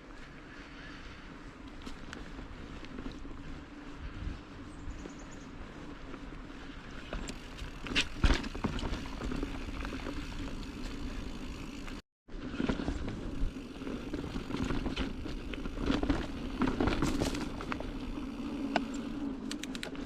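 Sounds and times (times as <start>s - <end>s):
bike tyre rumble on dirt: 0.0s - 20.0s.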